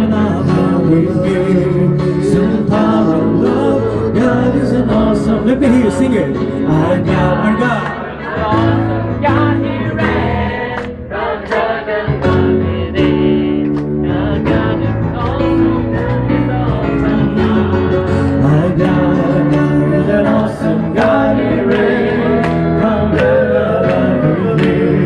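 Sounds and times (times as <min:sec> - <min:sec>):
person singing worship song: 0:00.0 - 0:25.0.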